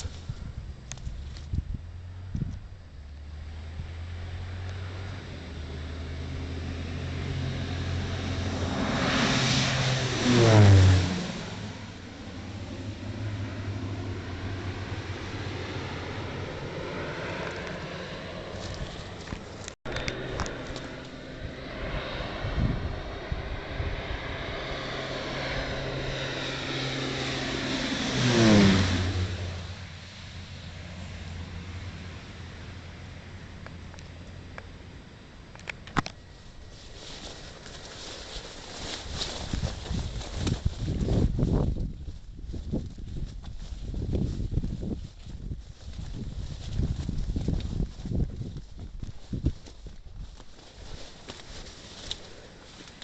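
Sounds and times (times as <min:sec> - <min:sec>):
propeller plane flying past: 0:00.0 - 0:53.0.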